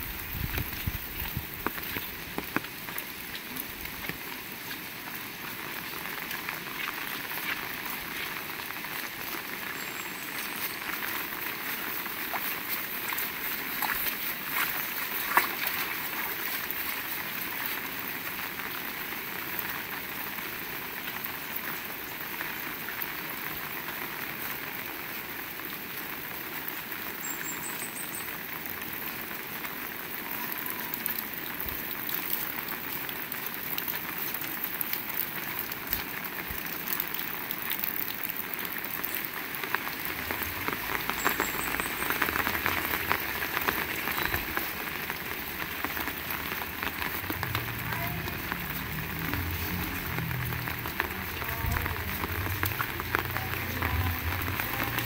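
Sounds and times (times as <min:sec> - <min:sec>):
heavy rain patter: 0:00.0 - 0:55.0.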